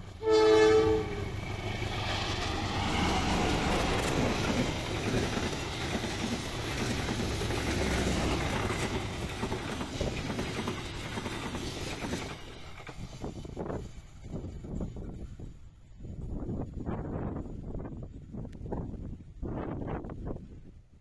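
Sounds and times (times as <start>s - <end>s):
train passing at speed: 0.0s - 20.7s.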